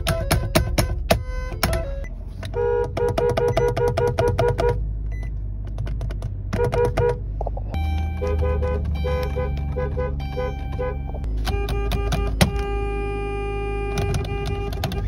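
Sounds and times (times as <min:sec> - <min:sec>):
car horn short beeps: 0:00.0 - 0:05.3, 0:07.8 - 0:15.0
low engine hum: 0:00.0 - 0:15.0.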